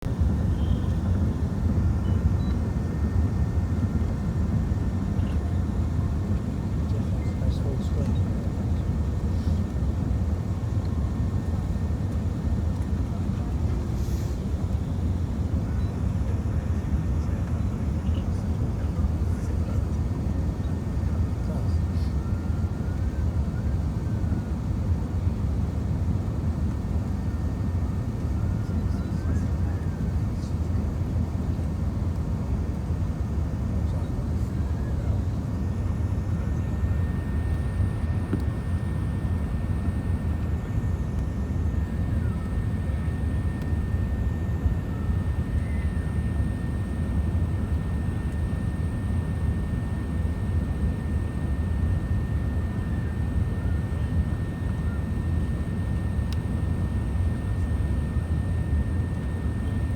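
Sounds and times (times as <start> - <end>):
airliner low rumble: 0.0 - 59.9
faint wavering whine: 0.2 - 59.9.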